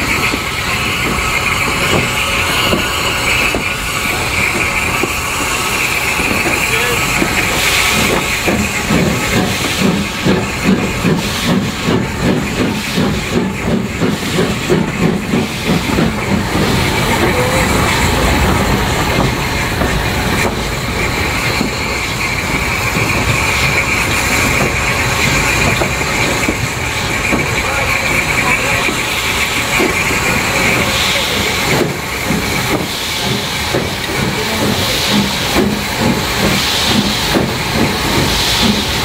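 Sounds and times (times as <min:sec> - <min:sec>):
steam hissing: 0:00.0 - 0:39.0
steam locomotive exhaust beats: 0:00.0 - 0:39.0.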